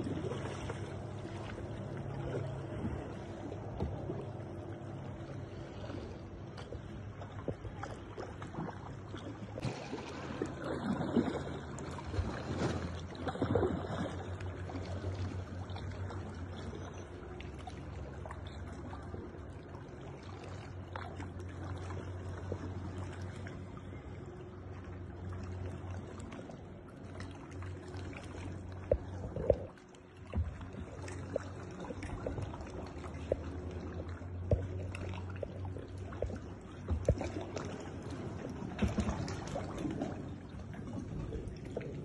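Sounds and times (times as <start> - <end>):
steady low hum: 0.0 - 42.0
water splashing around kayak: 0.0 - 42.0.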